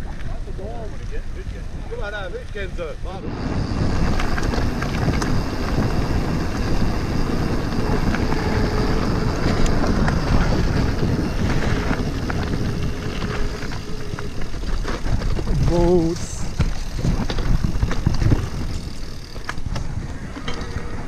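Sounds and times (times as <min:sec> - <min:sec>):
bike tyres rumbling on gravel: 0:00.0 - 0:21.0
wind rushing over microphone: 0:00.0 - 0:21.0
bike clicks and rattles: 0:00.1 - 0:21.0.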